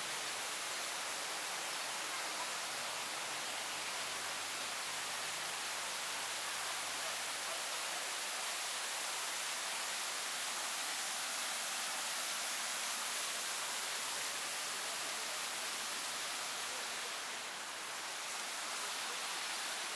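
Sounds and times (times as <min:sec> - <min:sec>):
steady hiss: 0:00.0 - 0:19.9.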